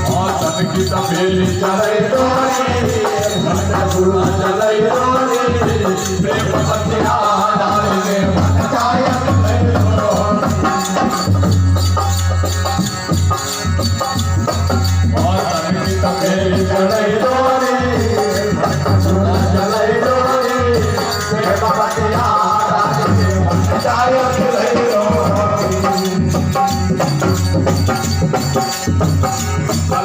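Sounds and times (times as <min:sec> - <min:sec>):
person singing devotional song: 0:00.0 - 0:11.6, 0:14.8 - 0:28.7
rattling hand percussion: 0:00.0 - 0:30.0.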